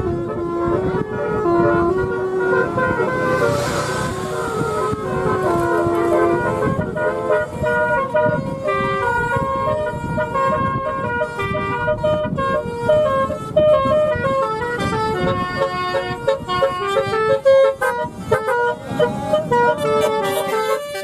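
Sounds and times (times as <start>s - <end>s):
low rumble of passing vehicles: 0.0s - 21.0s
multi-tone electric horns playing tune: 0.0s - 21.0s.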